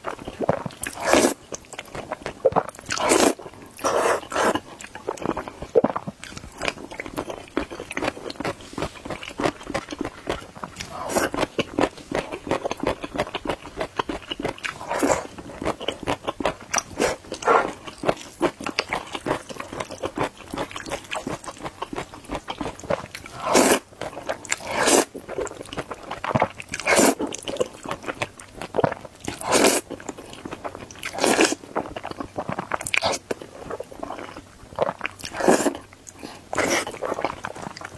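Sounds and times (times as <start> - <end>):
wet chewing noodles: 0.0 - 37.9.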